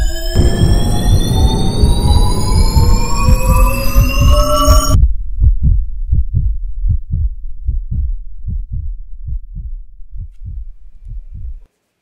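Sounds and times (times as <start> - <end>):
heartbeat thumps: 0.3 - 11.7.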